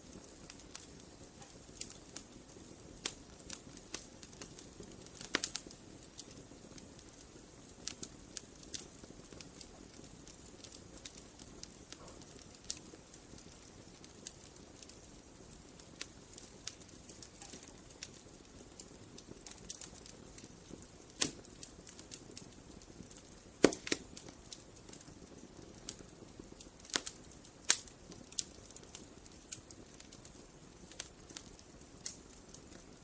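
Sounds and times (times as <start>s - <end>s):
campfire crackling: 0.0s - 33.0s
soft low hiss: 0.0s - 33.0s.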